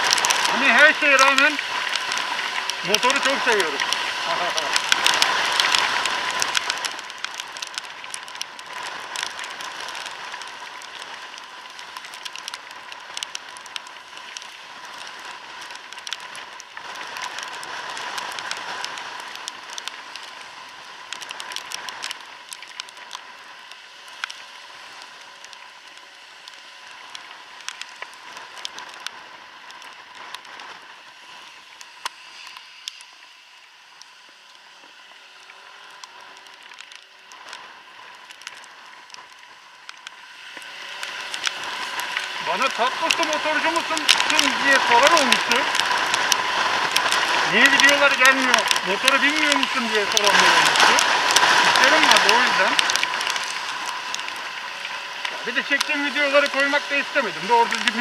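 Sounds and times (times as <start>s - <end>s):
rain on wet road: 0.0s - 58.0s
raindrops ticking on microphone: 0.0s - 58.0s.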